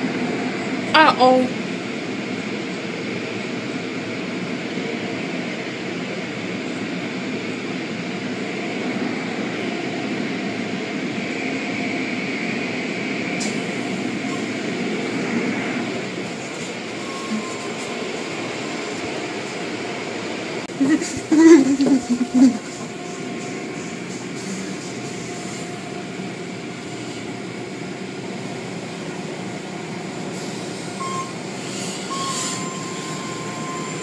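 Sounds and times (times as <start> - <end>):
car wash machinery and water: 0.0 - 34.0.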